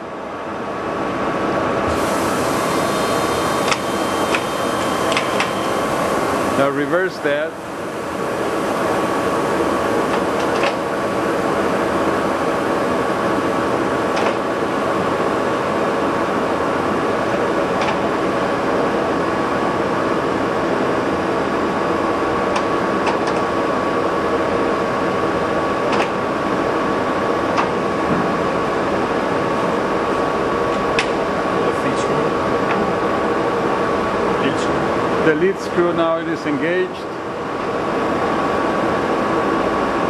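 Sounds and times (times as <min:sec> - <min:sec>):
lathe mechanical hum and whine: 0:00.0 - 0:40.0.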